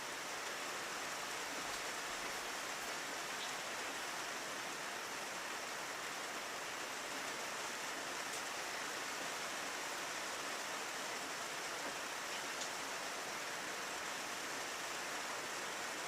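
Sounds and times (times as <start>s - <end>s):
rain on a window: 0.0s - 16.0s
faint ticks of raindrops: 0.2s - 4.6s, 5.3s - 15.0s.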